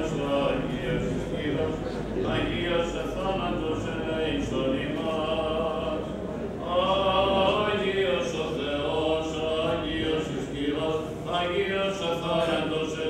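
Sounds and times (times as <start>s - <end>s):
clergy chanting slow melody: 0.0s - 13.0s.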